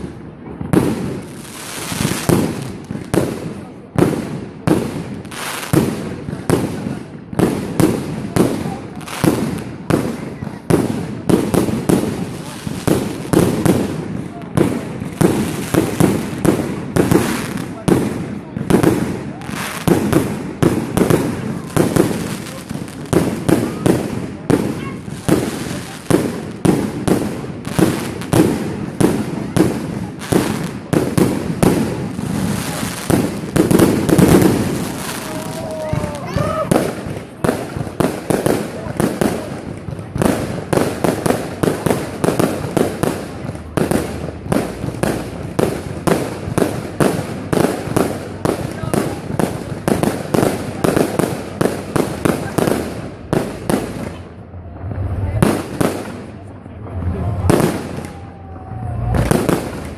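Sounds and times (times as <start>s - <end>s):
fireworks bangs echoing: 0.0s - 59.9s.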